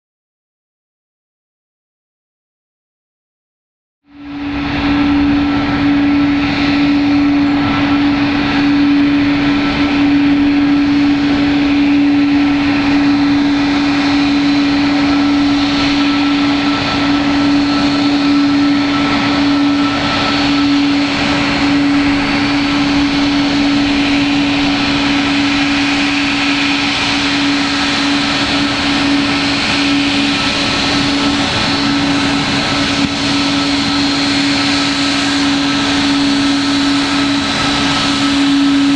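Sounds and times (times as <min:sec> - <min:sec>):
jet engines running: 0:04.0 - 0:38.9.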